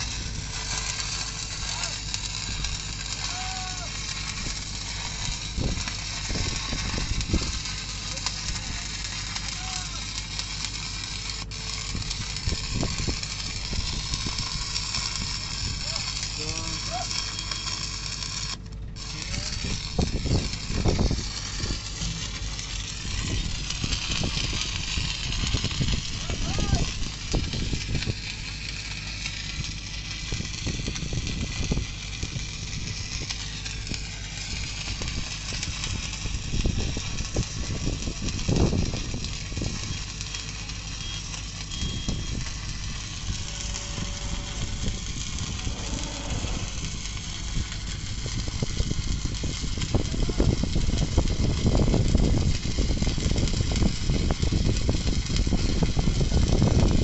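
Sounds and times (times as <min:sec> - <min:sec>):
welding arc hissing and crackling: 0:00.0 - 0:57.0.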